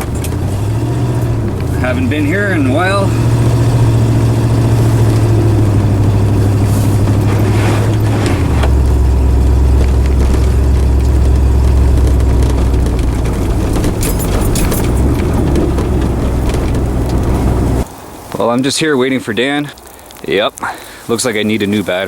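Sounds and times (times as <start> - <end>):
vehicle engine idling: 0.0 - 17.9.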